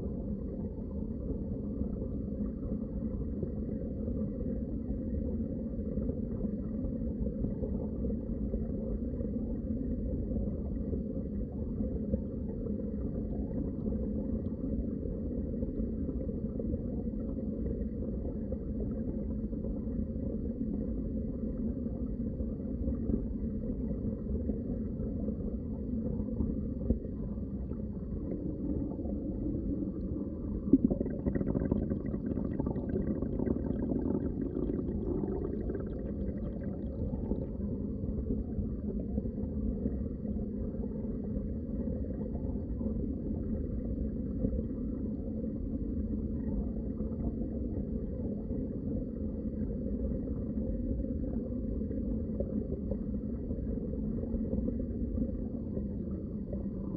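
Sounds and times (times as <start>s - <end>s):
low rumble of moving water: 0.0s - 56.9s.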